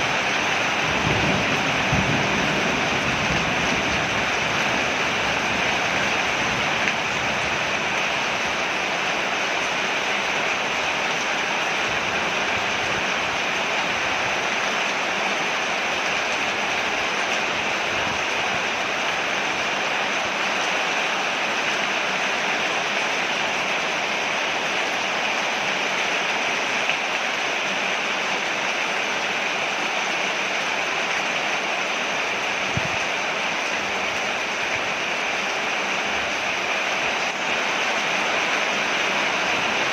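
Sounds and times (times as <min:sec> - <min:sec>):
rain falling on a porch: 0:00.0 - 0:39.9.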